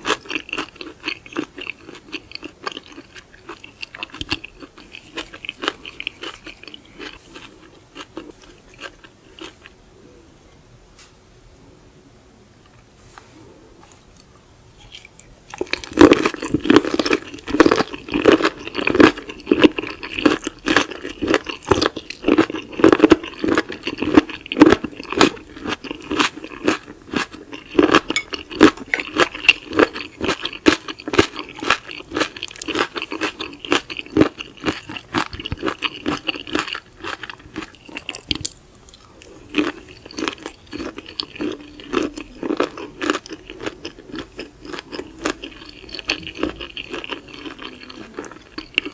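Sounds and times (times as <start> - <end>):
chewing crunchy seafood: 0.0 - 9.8, 13.9 - 48.9.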